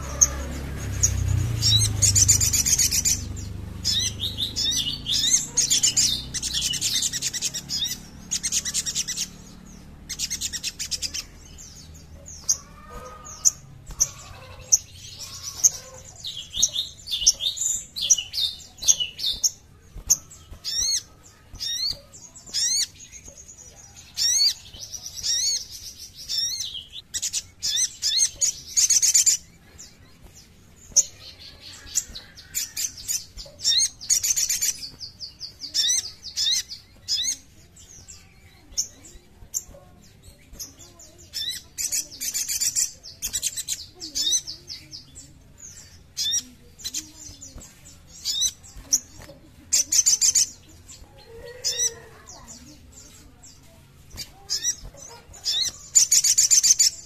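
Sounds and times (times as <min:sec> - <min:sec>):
sunbird chirps and trills: 0:00.0 - 0:57.0.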